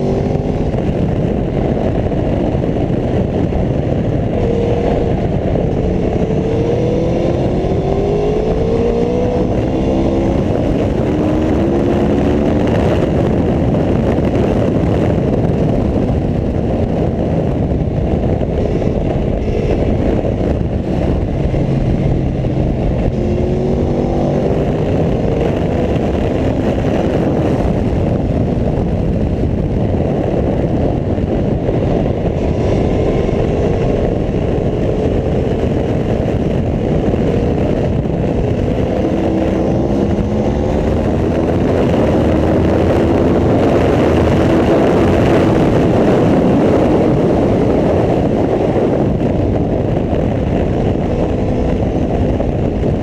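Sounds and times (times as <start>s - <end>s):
motorcycle engine revving through gears: 0.0s - 53.0s
steady rush of noise: 0.0s - 53.0s.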